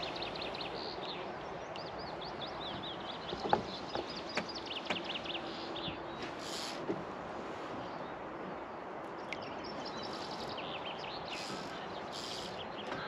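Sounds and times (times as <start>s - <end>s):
small birds chirping: 0.0s - 7.0s, 7.7s - 13.0s
outdoor background hiss: 0.0s - 13.0s.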